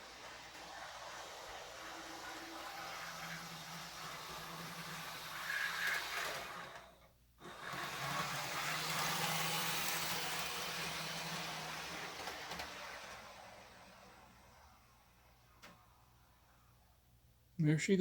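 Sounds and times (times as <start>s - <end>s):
model train motor whir: 0.0s - 17.0s.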